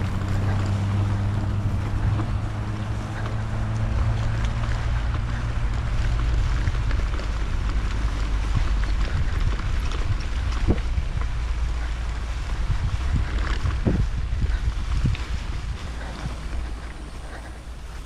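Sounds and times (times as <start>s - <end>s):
bike rolling on dirt trail: 0.0s - 18.0s
wind rushing over microphone: 0.0s - 18.0s.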